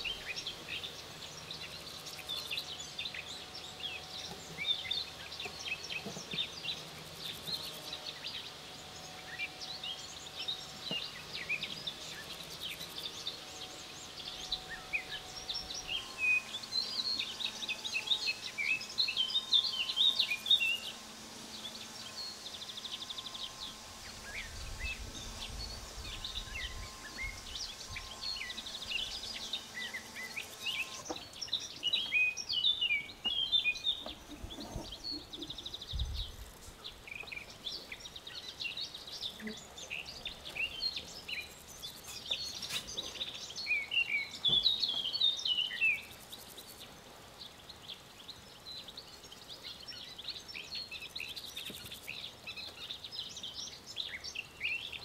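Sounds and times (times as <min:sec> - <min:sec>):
faint steady hum: 0:00.0 - 0:55.0
small birds chirping: 0:00.0 - 0:55.0.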